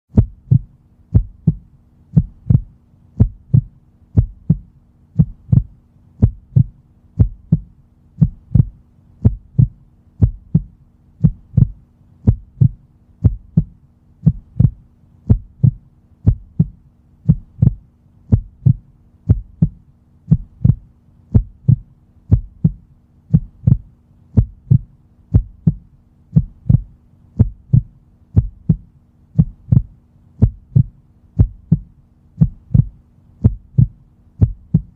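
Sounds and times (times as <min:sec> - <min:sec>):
heartbeat double thumps: 0:00.1 - 0:34.9.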